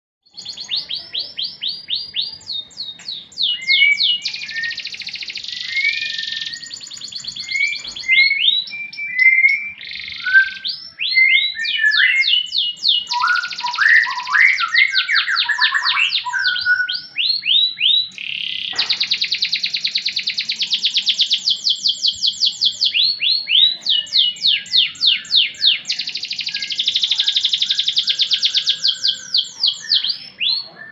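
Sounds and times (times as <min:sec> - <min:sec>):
canary singing trills: 0:00.3 - 0:30.9.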